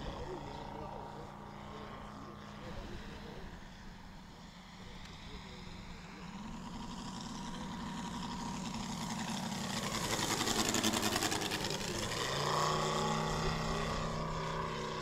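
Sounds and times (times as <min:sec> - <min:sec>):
model plane engine and propeller: 0:00.0 - 0:15.0.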